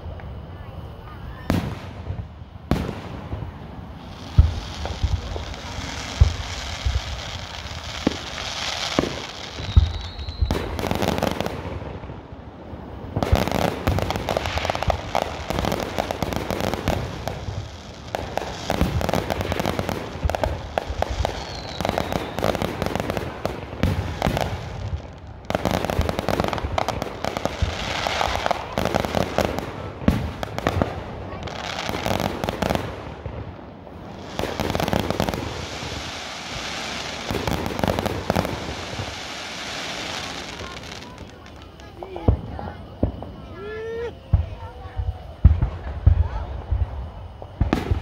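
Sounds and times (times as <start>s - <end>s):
firework booms: 0.0s - 48.0s
rapid firework crackling: 1.3s - 48.0s.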